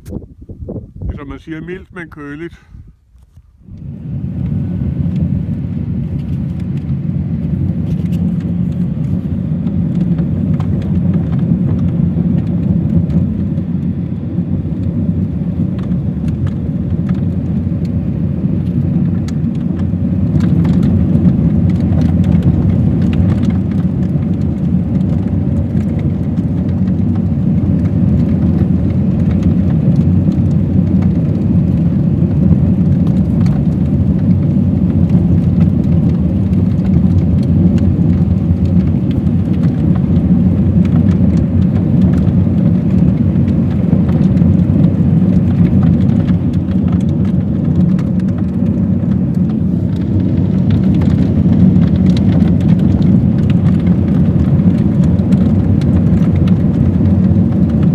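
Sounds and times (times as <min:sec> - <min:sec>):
tyre and road rumble: 0:00.0 - 0:57.9
gravel ticks: 0:07.5 - 0:57.9.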